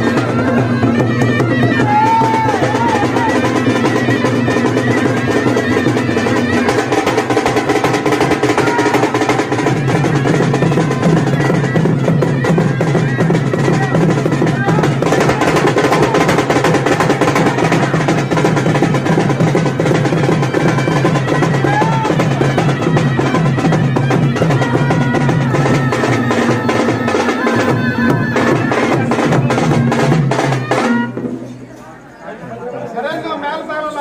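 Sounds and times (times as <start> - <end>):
fast procession drumming: 0.0 - 31.4.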